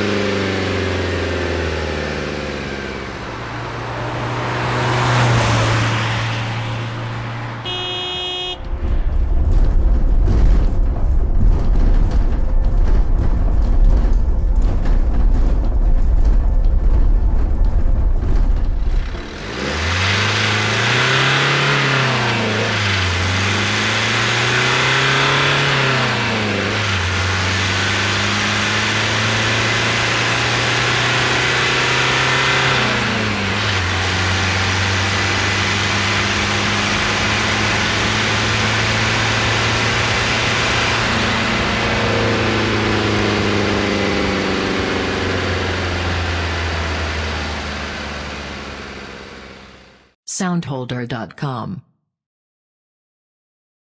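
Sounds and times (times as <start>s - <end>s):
van diesel engine driving off: 0.0s - 50.1s.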